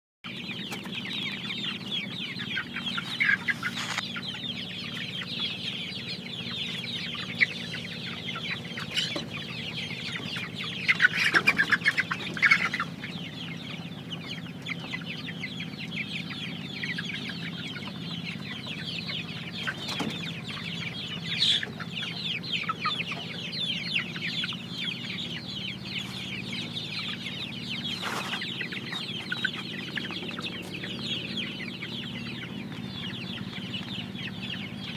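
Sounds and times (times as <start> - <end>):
chicks peeping and clucking: 0.2 - 34.9.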